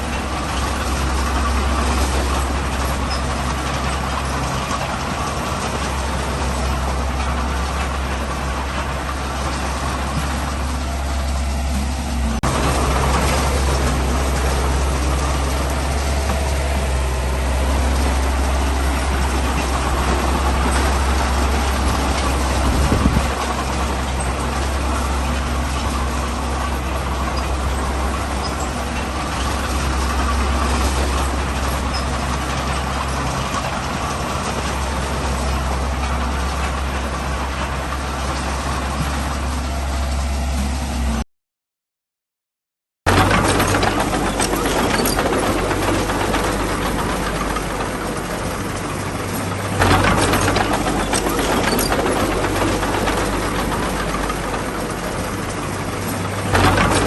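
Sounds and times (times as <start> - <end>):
diesel engine running: 0.0 - 41.2, 43.1 - 57.0.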